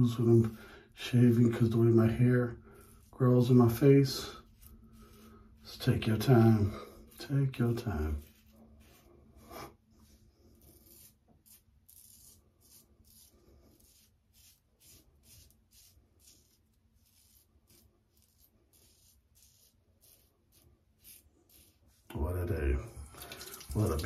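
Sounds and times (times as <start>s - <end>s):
razor scraping stubble: 1.3s - 22.3s.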